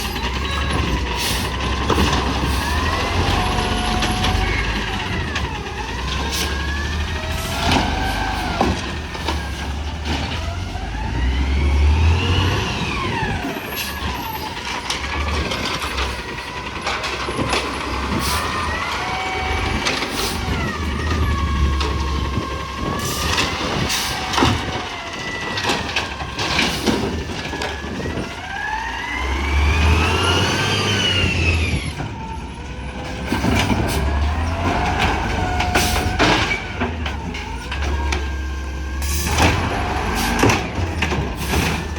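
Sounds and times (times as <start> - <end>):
diesel truck engine revving: 0.0 - 41.9.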